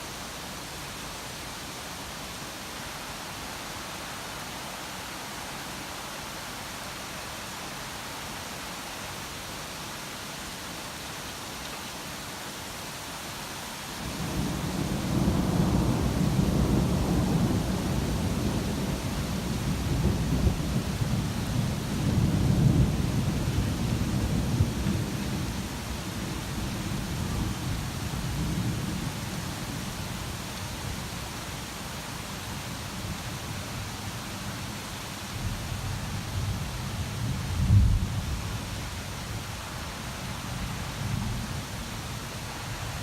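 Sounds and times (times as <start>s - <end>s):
rain hissing: 0.0s - 43.0s.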